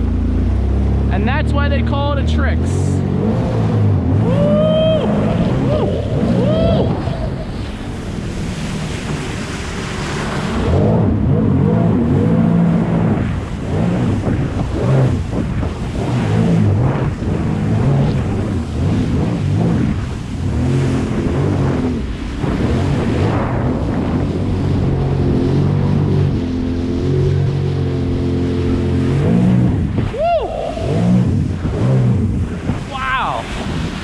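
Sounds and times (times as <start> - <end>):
jet ski engine revving: 0.0 - 34.0
wind on microphone: 3.0 - 34.0.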